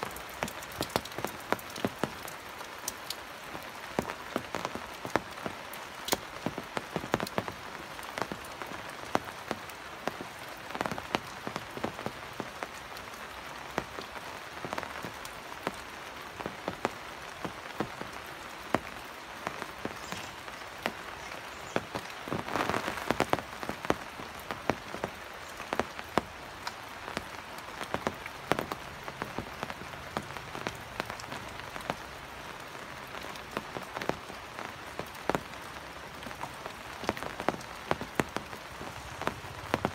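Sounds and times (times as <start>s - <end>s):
raindrops tapping close by: 0.0s - 39.9s
steady rain: 0.0s - 39.9s.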